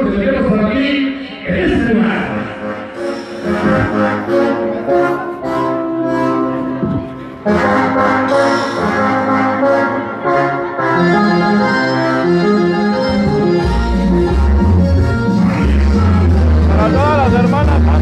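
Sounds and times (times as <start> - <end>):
dance music with horns: 2.3 - 6.5, 7.4 - 18.0.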